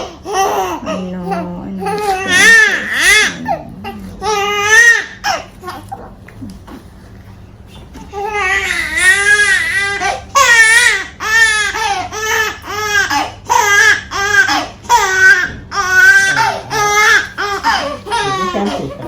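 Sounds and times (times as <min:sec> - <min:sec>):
small child crying: 0:00.0 - 0:06.0, 0:08.1 - 0:19.0.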